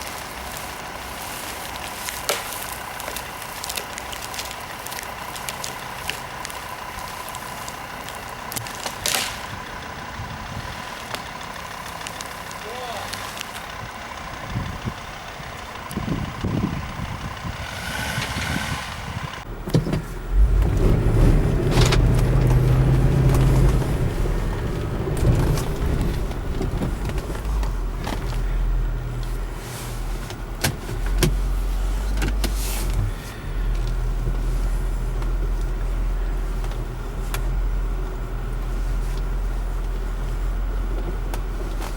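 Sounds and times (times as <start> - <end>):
engine low rumble: 0.0 - 41.9.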